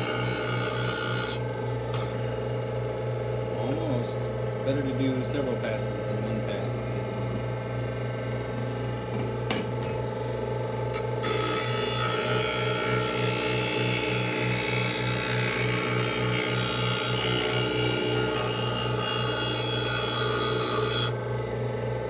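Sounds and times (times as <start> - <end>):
grinder motor hum: 0.0 - 2.3, 6.2 - 22.0.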